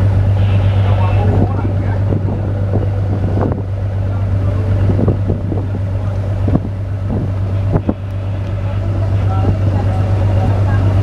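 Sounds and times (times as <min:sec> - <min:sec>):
motorboat engine droning: 0:00.0 - 0:11.0
wind buffeting microphone: 0:00.0 - 0:11.0.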